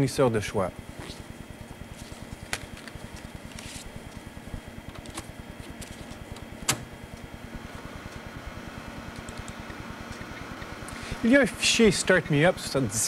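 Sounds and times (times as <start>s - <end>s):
low pulsing hum: 0.0s - 13.0s.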